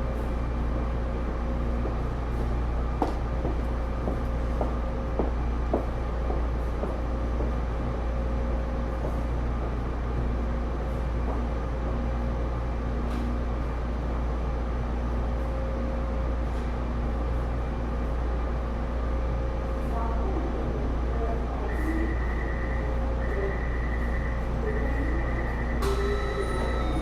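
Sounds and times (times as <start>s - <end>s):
metro car equipment humming: 0.0s - 27.0s.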